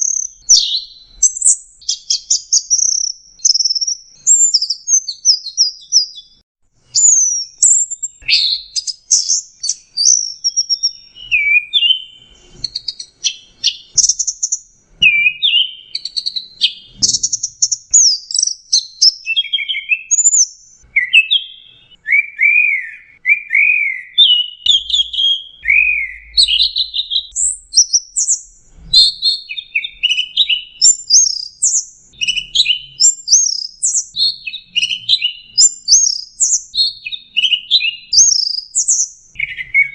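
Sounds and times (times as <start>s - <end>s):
thrush singing whistled phrases: 0.0s - 39.9s.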